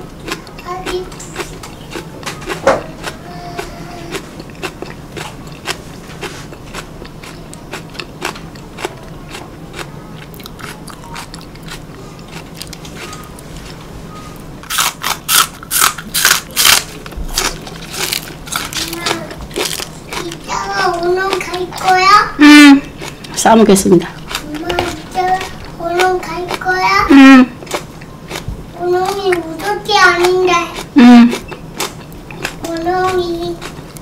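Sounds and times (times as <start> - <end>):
green onion being chewed: 0.1 - 13.7, 14.6 - 34.0.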